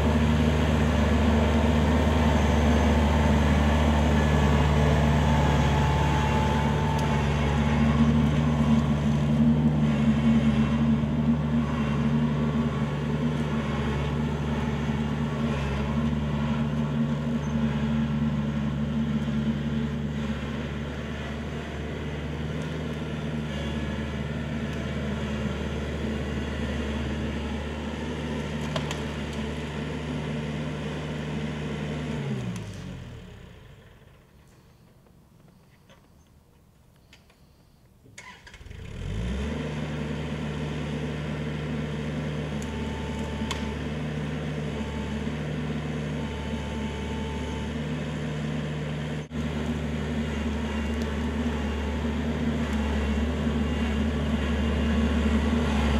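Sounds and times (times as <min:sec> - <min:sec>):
tractor diesel engine running: 0:00.0 - 0:34.9, 0:38.2 - 0:55.9.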